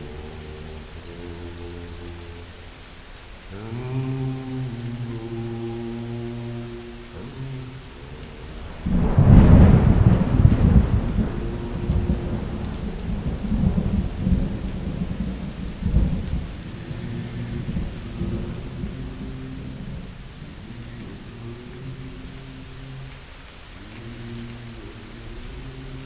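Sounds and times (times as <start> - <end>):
churning rumbling water: 0.0 - 26.0
rush of whitewater: 0.0 - 26.0
ocean surf breaking: 4.3 - 26.0.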